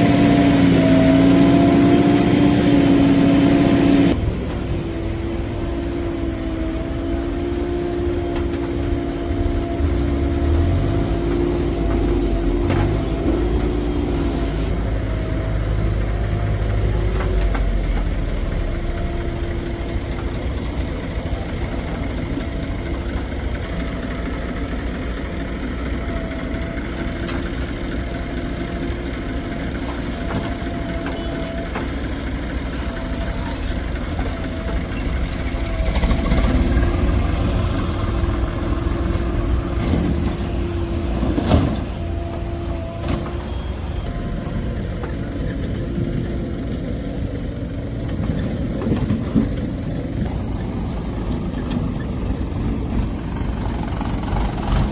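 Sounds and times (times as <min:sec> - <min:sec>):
heavy diesel engine rumble: 0:00.0 - 0:54.9.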